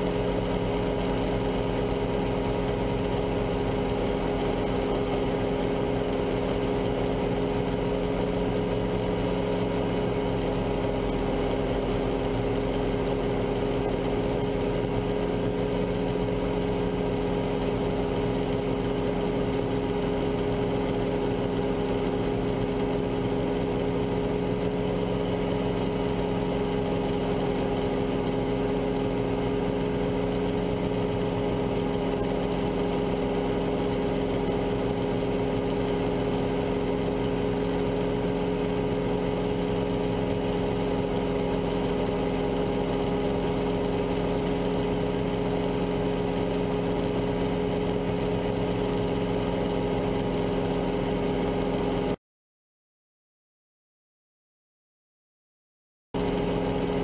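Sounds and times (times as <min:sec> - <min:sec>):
helicopter engine and rotors: 0:00.0 - 0:52.2, 0:56.2 - 0:57.0.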